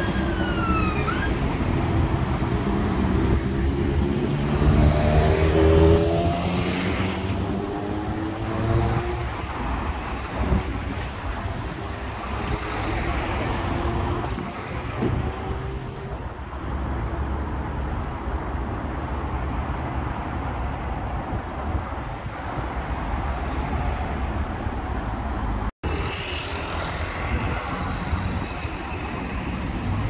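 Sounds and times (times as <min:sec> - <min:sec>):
vehicles passing: 0:00.0 - 0:30.0.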